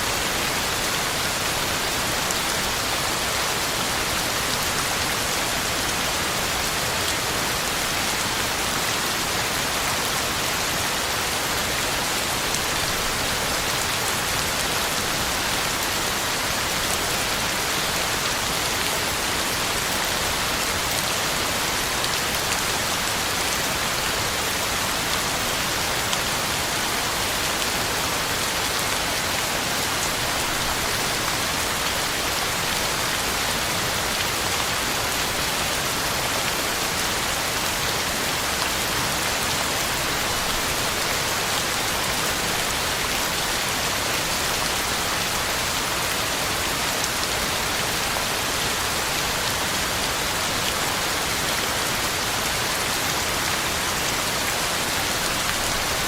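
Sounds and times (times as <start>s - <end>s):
heavy rain hissing on leaves: 0.0s - 56.0s.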